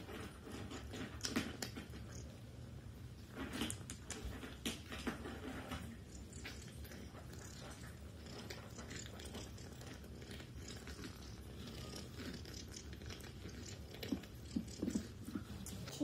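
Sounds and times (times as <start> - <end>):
kitten licking and nuzzling: 0.0 - 16.0.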